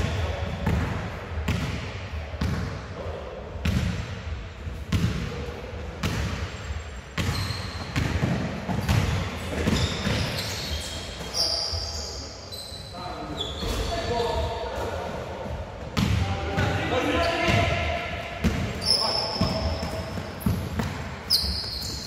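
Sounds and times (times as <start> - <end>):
basketballs bouncing in hall: 0.0 - 22.0.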